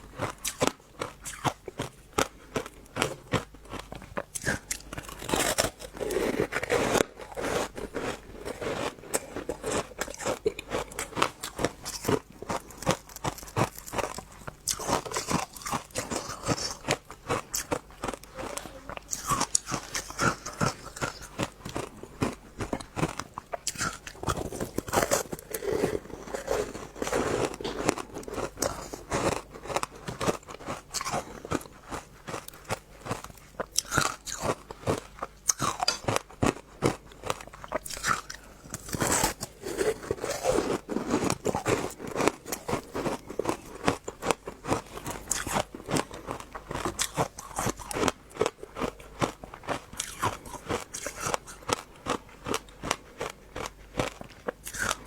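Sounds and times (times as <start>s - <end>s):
fruit chewing crunches: 0.0s - 55.0s.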